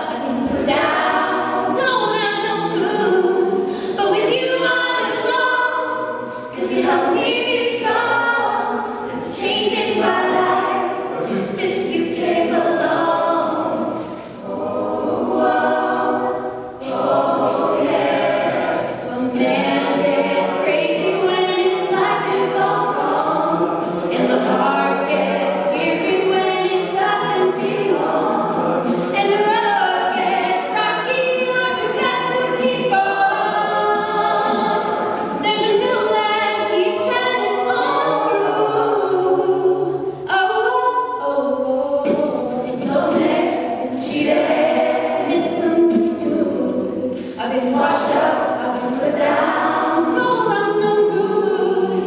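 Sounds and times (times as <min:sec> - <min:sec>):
a cappella group singing in harmony: 0:00.0 - 0:52.0.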